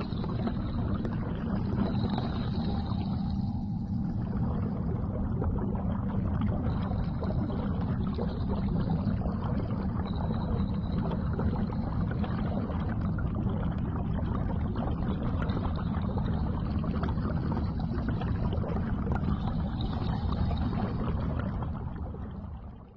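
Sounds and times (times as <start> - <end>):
underwater rumble and wash: 0.0 - 22.9.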